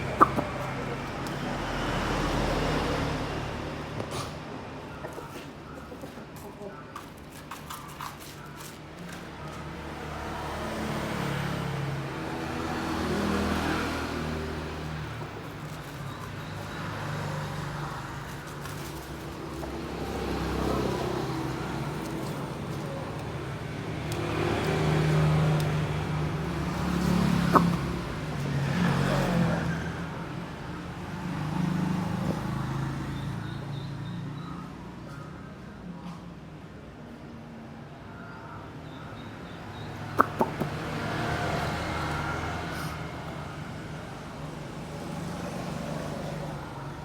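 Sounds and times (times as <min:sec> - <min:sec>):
vehicle engines passing: 0:00.0 - 0:47.0.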